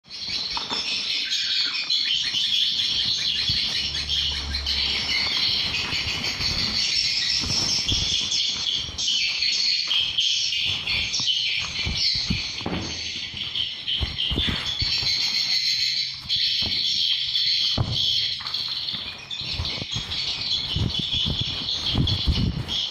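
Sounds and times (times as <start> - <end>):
swiftlets chirping and twittering: 0.0 - 22.9.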